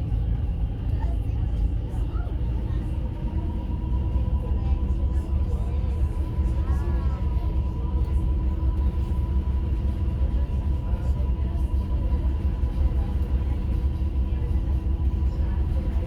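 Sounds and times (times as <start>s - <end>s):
ship low rumble: 0.0s - 16.0s.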